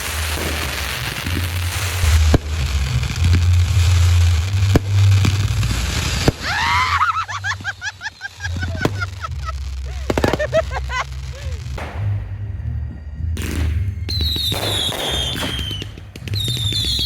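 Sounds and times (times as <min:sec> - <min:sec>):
fireworks booming: 0:00.0 - 0:17.0
fireworks whistling: 0:00.0 - 0:17.0
sharp fireworks bangs: 0:00.0 - 0:17.0.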